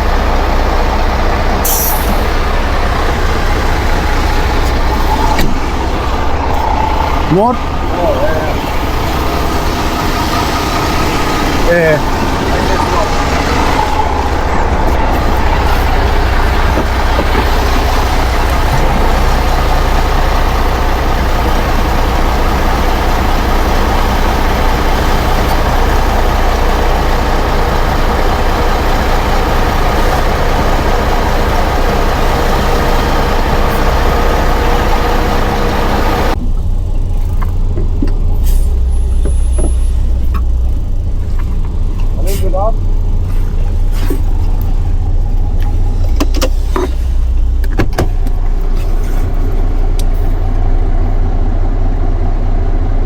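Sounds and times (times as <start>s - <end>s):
diesel truck engine running: 0.0s - 53.0s.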